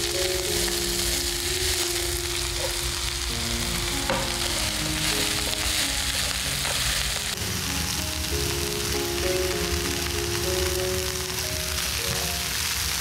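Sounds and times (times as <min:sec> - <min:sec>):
chives sizzling in hot oil: 0:00.0 - 0:13.0.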